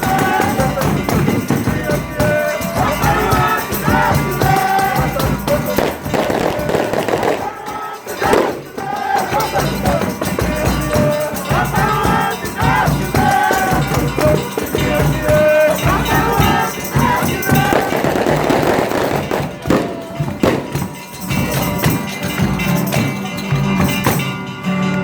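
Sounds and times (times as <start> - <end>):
shaken rattle percussion: 0.0 - 24.7
tambourine: 0.0 - 25.0
voices singing folk music: 0.0 - 25.0.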